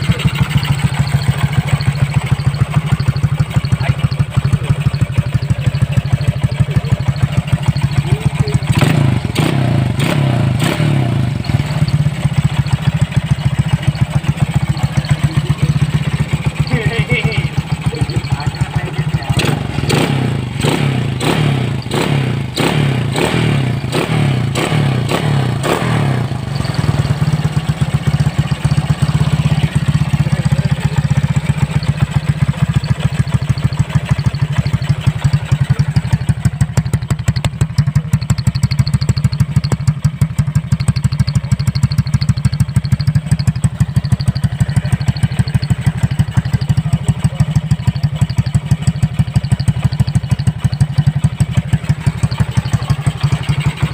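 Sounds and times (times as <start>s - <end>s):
motorcycle engine revving and idling: 0.0s - 53.9s.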